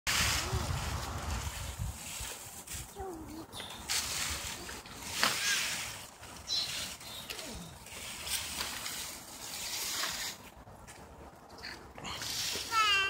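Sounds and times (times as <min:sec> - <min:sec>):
plastic rake scraping leaves: 0:00.1 - 0:10.6, 0:12.0 - 0:13.0
dry leaves rustling and crackling: 0:00.1 - 0:13.0.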